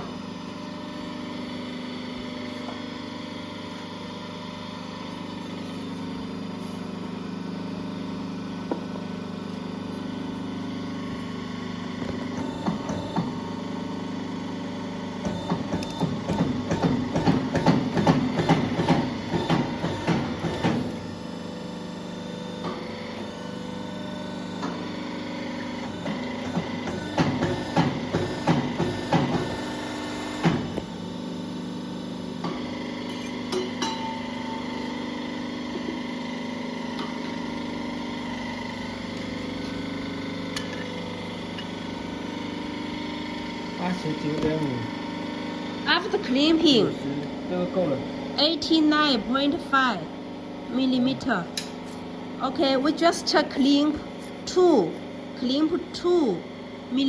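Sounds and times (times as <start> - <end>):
crimping press machine hum: 0.0 - 57.0.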